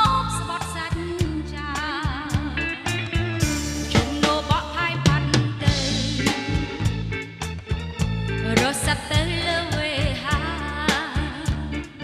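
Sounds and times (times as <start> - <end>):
band instrumental with vibrato lead: 0.0 - 12.0.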